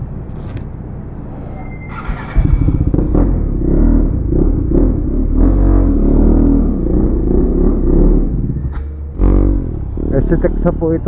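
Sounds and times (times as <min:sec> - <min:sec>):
motorcycle engine accelerating: 0:01.9 - 0:11.0.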